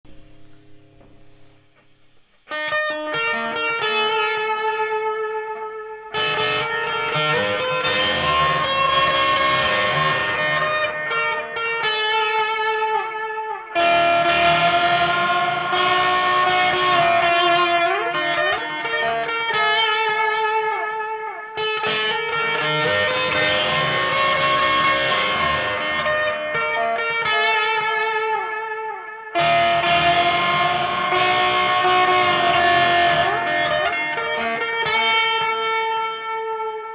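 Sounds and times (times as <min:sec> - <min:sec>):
distorted electric guitar metal riff: 0:02.5 - 0:36.9.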